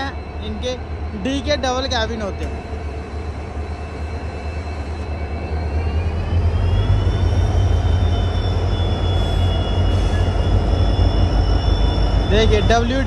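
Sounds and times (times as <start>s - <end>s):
diesel locomotive rumbling: 0.0s - 13.0s
high whine rising in pitch: 0.0s - 13.0s.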